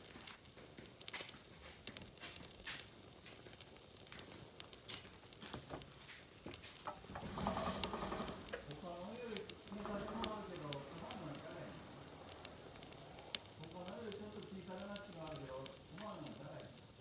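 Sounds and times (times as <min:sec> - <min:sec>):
faint hiss: 0:00.0 - 0:17.0
wood fire crackling: 0:00.0 - 0:17.0.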